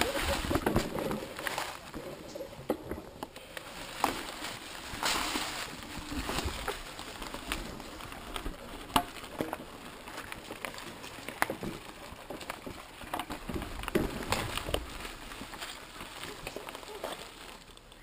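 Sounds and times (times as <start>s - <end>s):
bike clicks and rattles: 0.0s - 18.0s.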